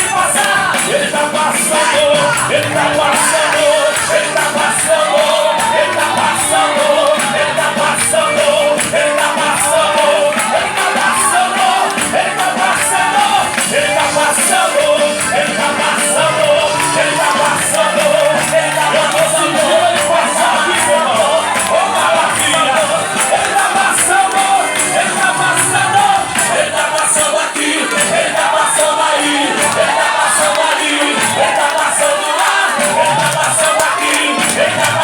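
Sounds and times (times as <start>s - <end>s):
live gospel worship music: 0.0s - 35.0s
voices singing: 0.0s - 35.0s.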